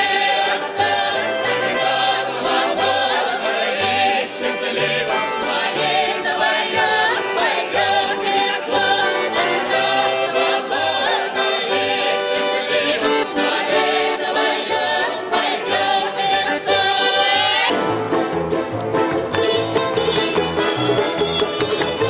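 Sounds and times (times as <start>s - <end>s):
folk ensemble singing in chorus: 0.0s - 18.1s
accordion: 0.0s - 22.0s
jingling percussion beat: 0.0s - 22.0s.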